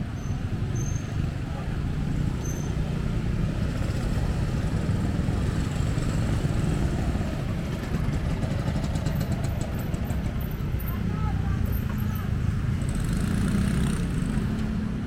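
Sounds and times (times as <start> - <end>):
car engines running: 0.0 - 15.0
motorcycle engines running: 0.0 - 15.0.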